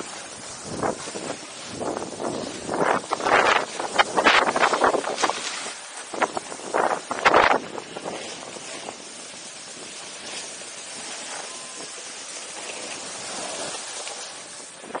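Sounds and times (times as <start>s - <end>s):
skis sliding on snow: 0.0s - 15.0s
wind on microphone: 0.0s - 15.0s.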